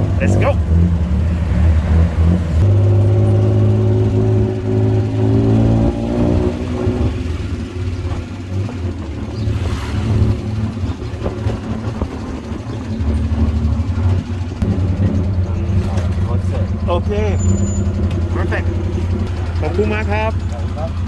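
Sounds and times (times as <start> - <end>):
auto rickshaw engine: 0.0 - 21.0
road noise: 0.0 - 21.0.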